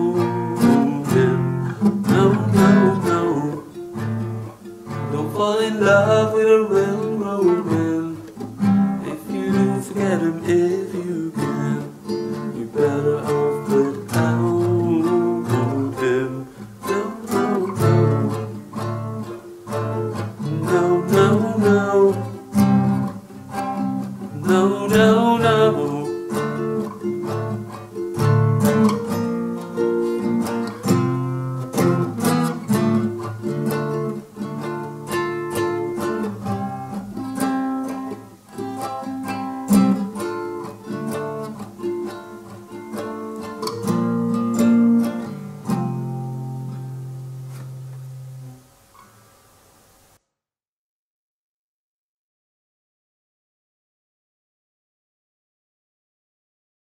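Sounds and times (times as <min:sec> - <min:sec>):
acoustic guitar playing: 0:00.0 - 0:50.2.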